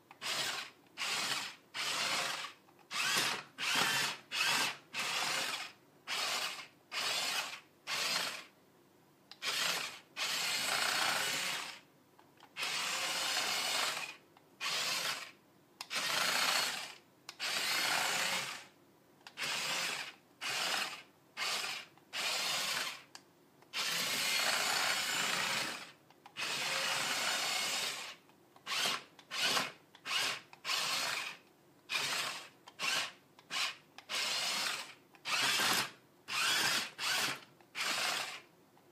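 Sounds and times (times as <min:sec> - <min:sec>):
toy truck motor whirring: 0:00.1 - 0:08.5, 0:09.3 - 0:11.9, 0:12.5 - 0:18.7, 0:19.3 - 0:23.1, 0:23.7 - 0:38.5.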